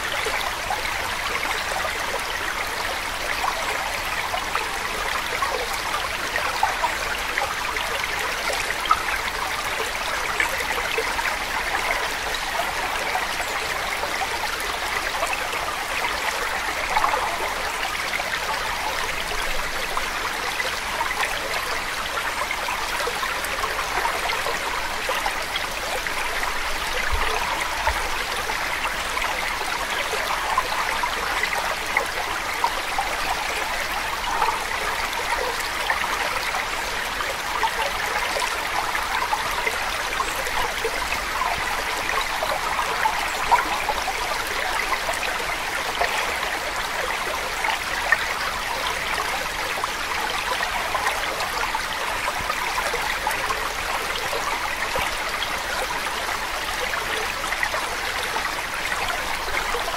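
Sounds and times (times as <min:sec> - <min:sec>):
stream trickling: 0:00.0 - 0:59.9.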